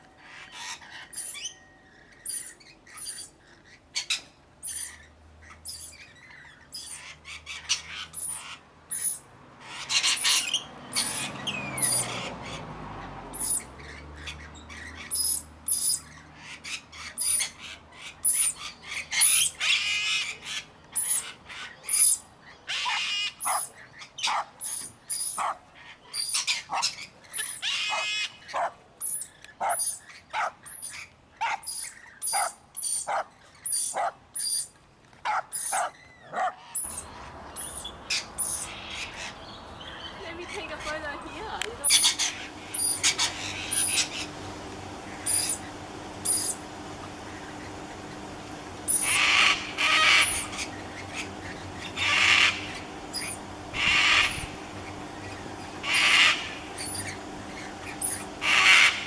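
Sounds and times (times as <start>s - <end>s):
parrots squawking: 0.1s - 34.7s, 35.3s - 44.4s, 45.1s - 46.6s, 48.9s - 59.0s.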